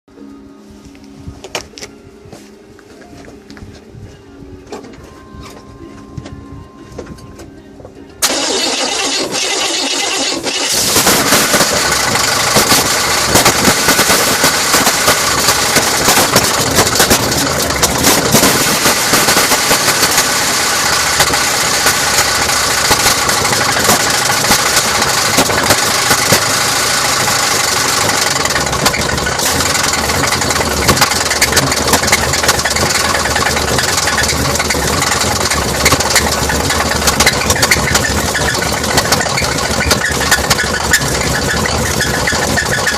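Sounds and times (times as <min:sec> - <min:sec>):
engine starting and running: 0:08.2 - 0:42.9.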